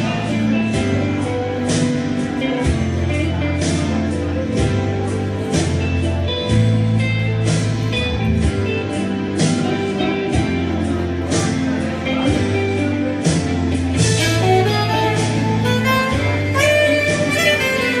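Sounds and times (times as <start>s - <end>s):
bass line: 0.0s - 18.0s
beat: 0.0s - 18.0s
guitar: 0.0s - 18.0s.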